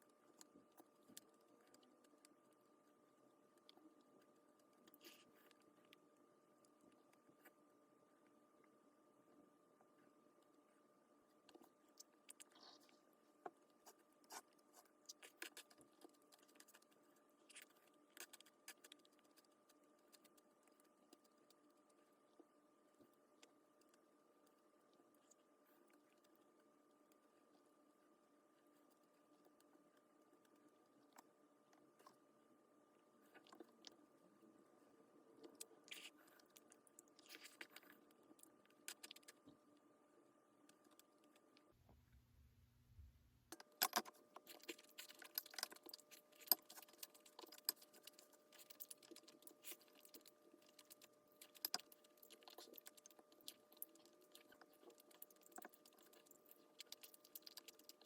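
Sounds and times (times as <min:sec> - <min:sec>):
quiet chewing: 0:00.0 - 0:41.8, 0:43.5 - 0:58.0
faint steady hum: 0:00.0 - 0:58.0.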